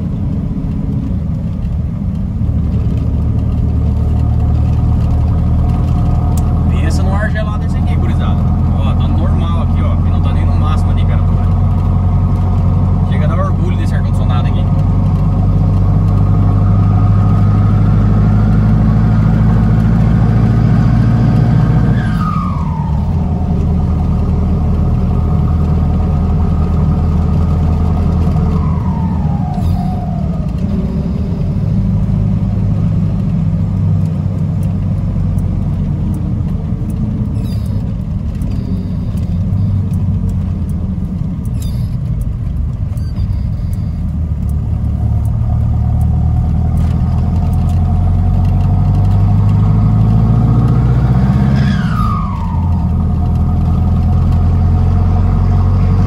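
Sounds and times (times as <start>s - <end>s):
diesel engine driving: 0.0s - 56.0s.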